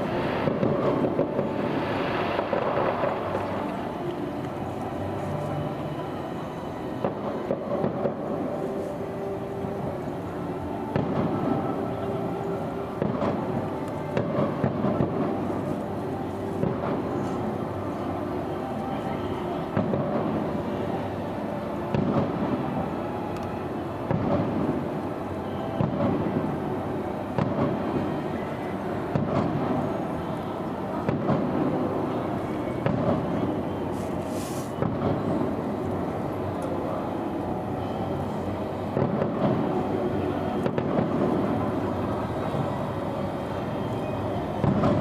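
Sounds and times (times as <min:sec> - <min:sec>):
continuous rumble: 0:00.0 - 0:45.0
distant fireworks bursts: 0:00.0 - 0:45.0.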